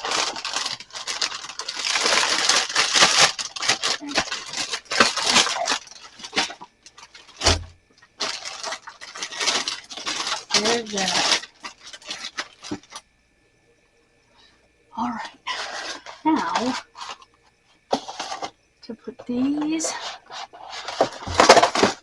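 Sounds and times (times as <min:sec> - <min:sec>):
items clattering: 0:00.0 - 0:13.0, 0:15.4 - 0:17.3, 0:17.9 - 0:22.0.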